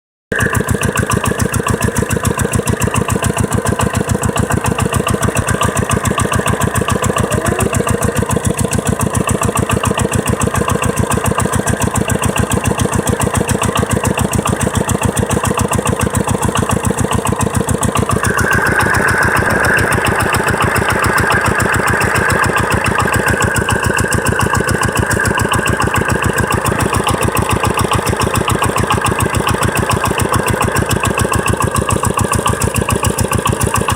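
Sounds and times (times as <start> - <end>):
diesel engine running: 0.3 - 33.9.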